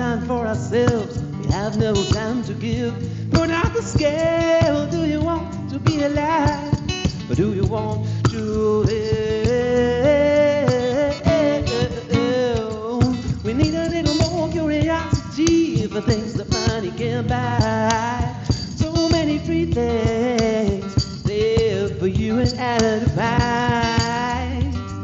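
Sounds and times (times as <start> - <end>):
song with wavering melodic lead: 0.0 - 21.4.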